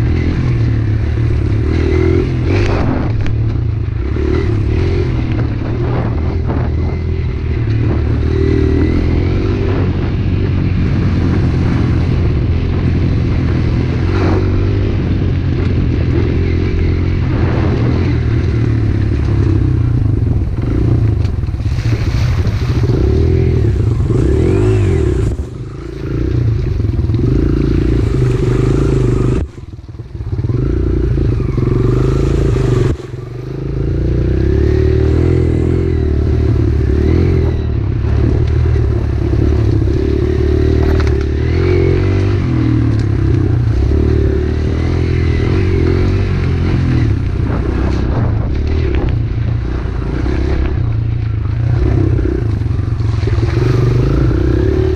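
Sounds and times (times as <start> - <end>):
pit bike engine revving: 0.0 - 54.9.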